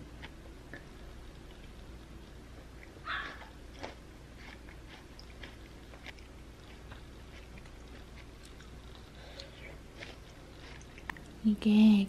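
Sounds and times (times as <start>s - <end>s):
person chewing food: 0.0s - 11.4s.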